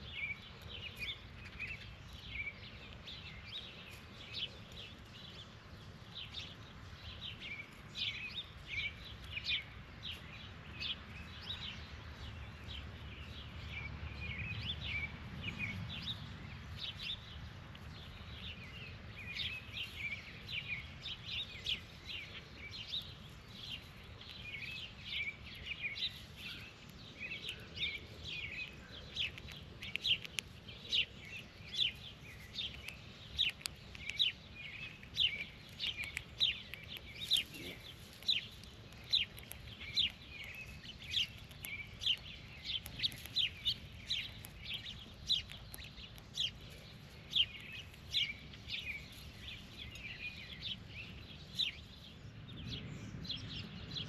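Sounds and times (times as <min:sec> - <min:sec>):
bird chirping: 0:00.0 - 0:54.0
low steady background rumble: 0:00.0 - 0:54.0.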